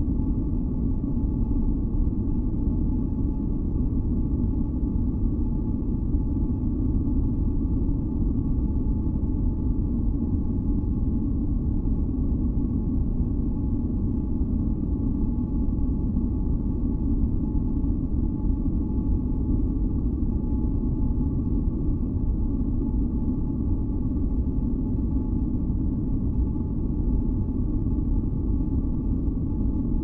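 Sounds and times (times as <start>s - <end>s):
faint steady hums: 0.0s - 30.0s.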